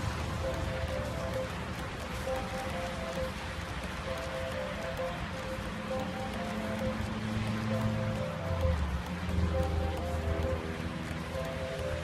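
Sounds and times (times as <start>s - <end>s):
simple repeating melody: 0.0s - 12.0s.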